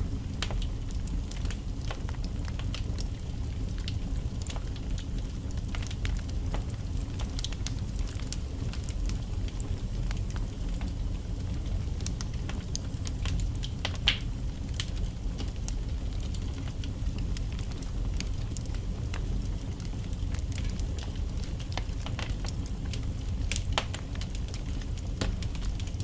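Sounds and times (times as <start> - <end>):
low rumble of fire flames: 0.0 - 26.0
logs crackling and popping: 0.1 - 26.0.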